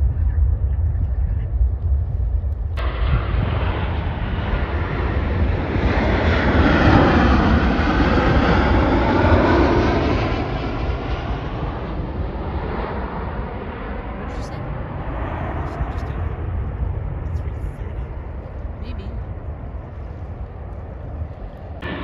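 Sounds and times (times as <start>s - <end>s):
jet airliner passing overhead: 0.0s - 22.0s
steady low rumble: 0.0s - 22.0s.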